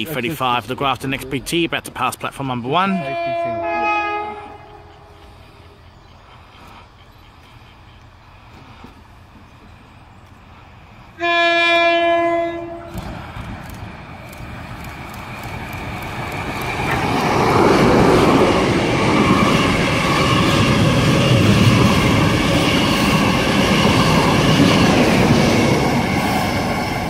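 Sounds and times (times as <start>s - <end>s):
diesel train passing: 0.0s - 27.0s
wheel and rail noise: 4.3s - 27.0s.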